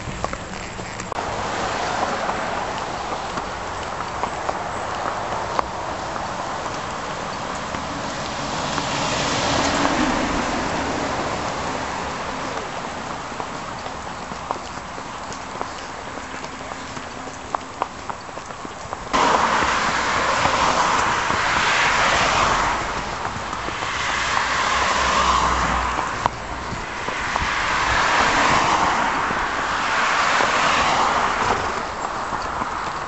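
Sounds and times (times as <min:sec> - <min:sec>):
heavy vehicle rumble: 0:00.0 - 0:33.0
horse hooves clopping on road: 0:00.0 - 0:33.0
road traffic passing: 0:00.0 - 0:33.0.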